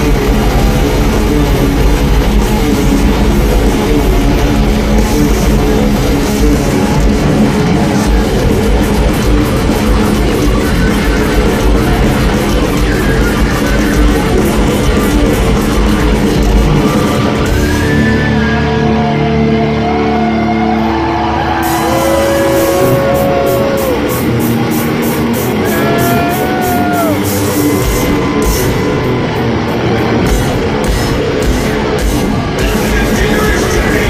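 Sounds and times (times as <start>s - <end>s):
drums and cymbals: 0.0s - 19.0s, 21.6s - 34.0s
distorted electric guitars: 0.0s - 34.0s.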